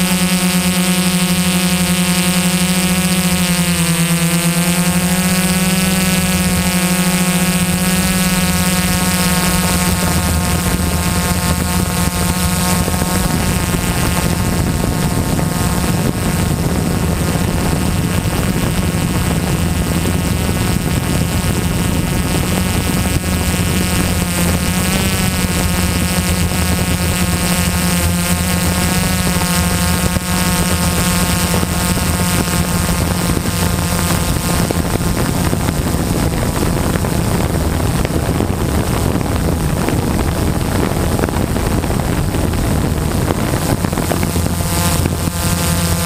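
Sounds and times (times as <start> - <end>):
drone propellers buzzing: 0.0 - 46.0.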